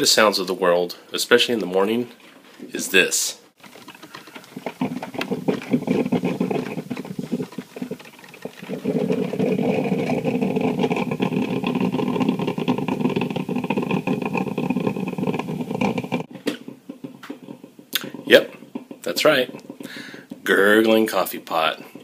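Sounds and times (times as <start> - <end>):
coffee maker gurgling: 3.6 - 22.0.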